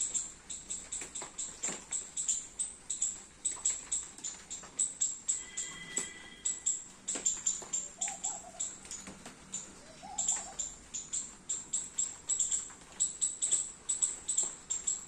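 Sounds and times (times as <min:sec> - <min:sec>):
squirrel chirping: 0:00.0 - 0:15.0.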